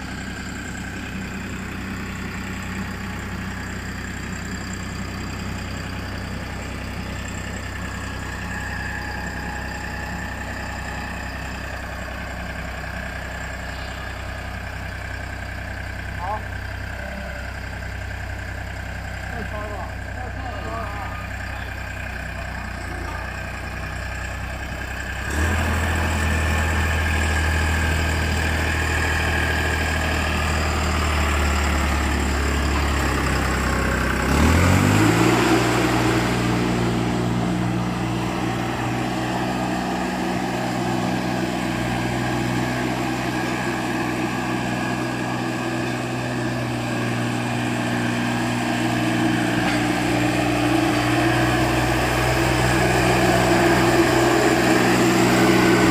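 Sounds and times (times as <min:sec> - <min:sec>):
road roller engine idling and revving: 0:00.0 - 0:55.9.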